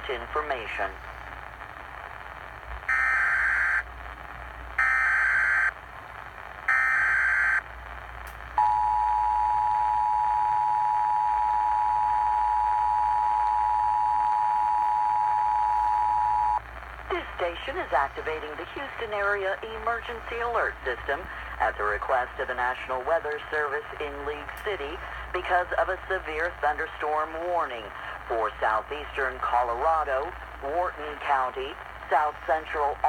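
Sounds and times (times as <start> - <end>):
radio hiss: 0.0 - 8.6, 13.1 - 33.0.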